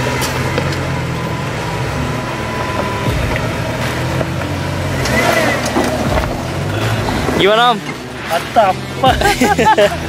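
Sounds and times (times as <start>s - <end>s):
engine running at low revs: 0.0s - 10.0s.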